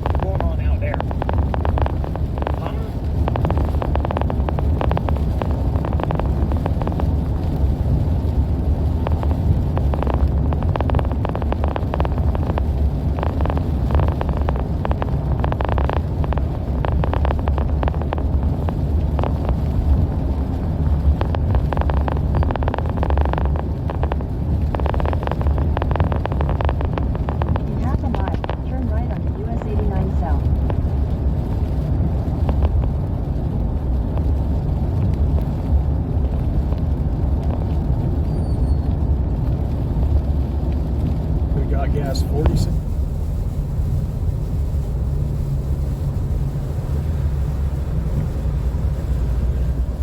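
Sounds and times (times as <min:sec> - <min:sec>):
tyres and engine rumbling: 0:00.0 - 0:50.0.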